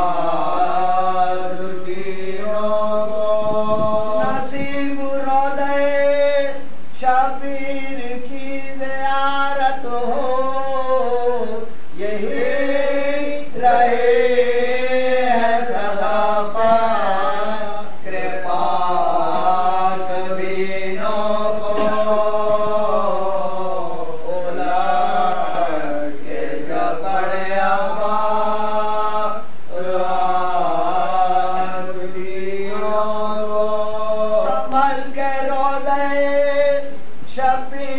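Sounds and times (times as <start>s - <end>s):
men chanting unaccompanied: 0.0s - 37.9s.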